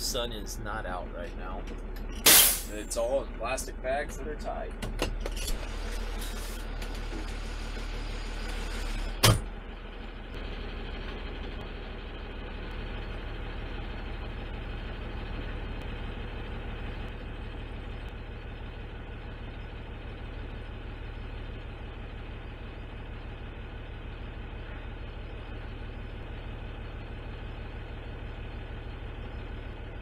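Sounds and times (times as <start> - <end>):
garbage truck engine idling: 0.0 - 30.0.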